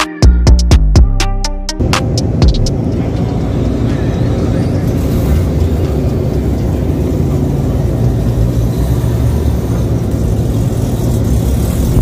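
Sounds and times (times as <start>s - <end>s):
car engine running: 1.8s - 12.0s.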